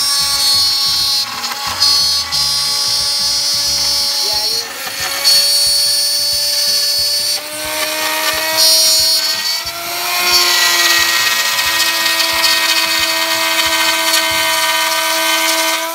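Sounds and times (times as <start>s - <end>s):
router bit cutting wood: 0.0s - 15.9s
wood router whining: 0.0s - 15.9s.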